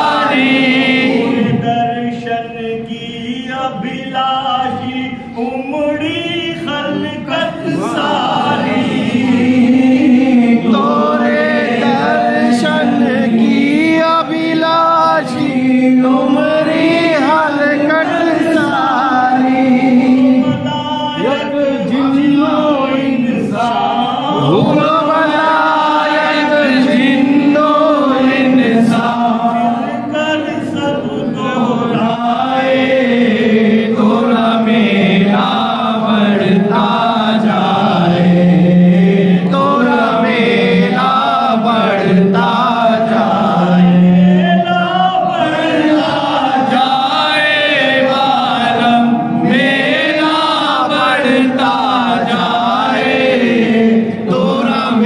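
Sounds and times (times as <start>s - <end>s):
men chanting together: 0.0s - 55.0s.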